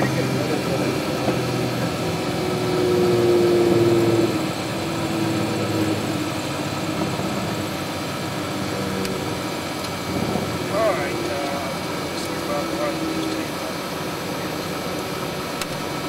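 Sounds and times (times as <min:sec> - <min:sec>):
steady warning tone: 0:00.0 - 0:15.4
aircraft engine at low power: 0:00.0 - 0:16.0.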